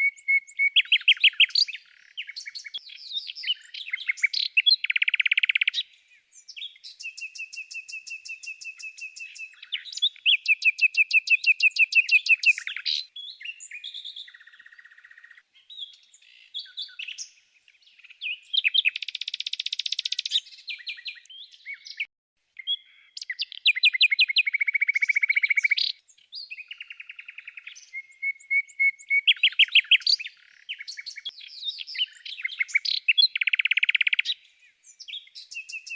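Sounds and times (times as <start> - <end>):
songbird trilling and chirping: 0.0 - 35.9.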